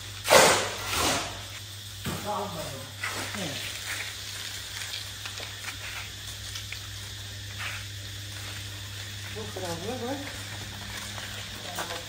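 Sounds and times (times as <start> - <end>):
steady low hum: 0.0 - 12.0
food frying with crackles: 1.0 - 12.0.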